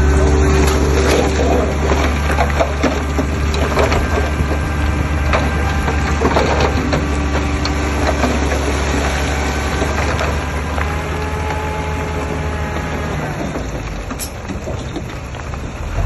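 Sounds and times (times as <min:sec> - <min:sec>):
diesel earthmoving machine rumbling: 0:00.0 - 0:16.0
knocks of soil and rock: 0:00.0 - 0:16.0.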